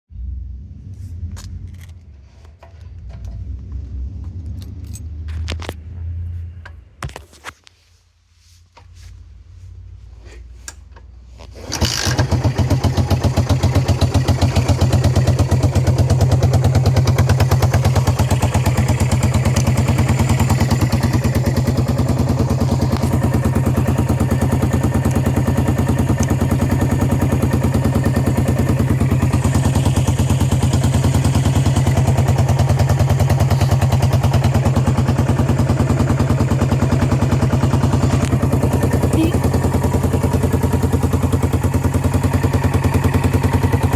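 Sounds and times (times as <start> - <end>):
motorcycle engine starting and idling: 0.2 - 7.7, 9.8 - 43.9.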